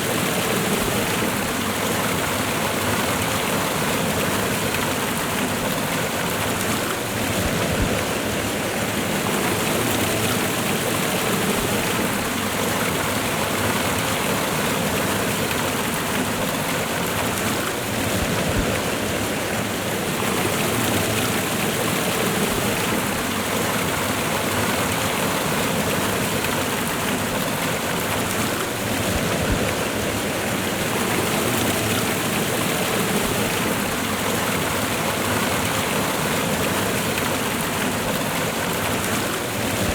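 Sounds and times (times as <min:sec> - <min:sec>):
waterfall and rushing river: 0:00.0 - 0:39.9.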